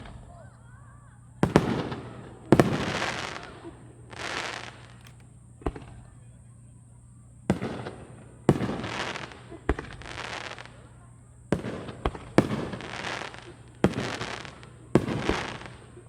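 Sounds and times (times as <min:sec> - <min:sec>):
fireworks booming: 0:00.0 - 0:06.6, 0:07.4 - 0:16.0.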